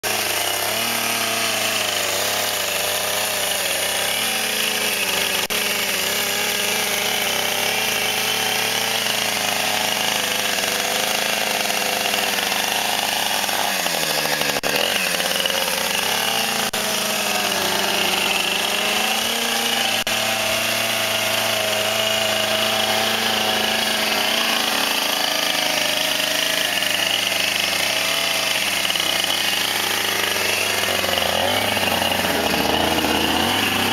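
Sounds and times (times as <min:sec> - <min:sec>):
chainsaw cutting a log: 0:00.0 - 0:33.9.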